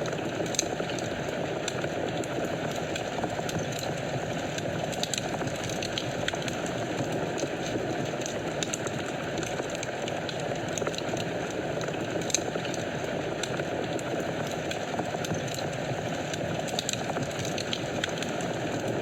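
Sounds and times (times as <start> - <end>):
fire crackles and pops: 0.0 - 19.0
fire rushing in fireplace: 0.0 - 19.0.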